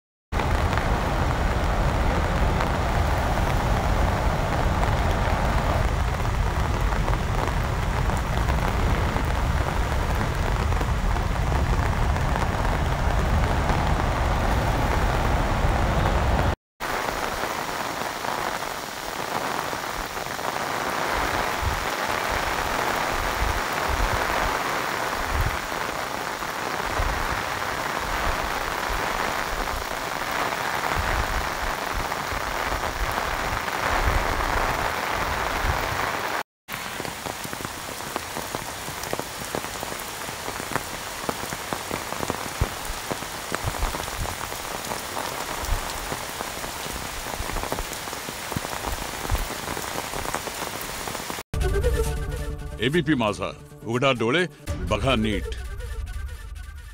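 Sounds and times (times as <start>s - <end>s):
heavy rain on water: 0.3s - 51.5s.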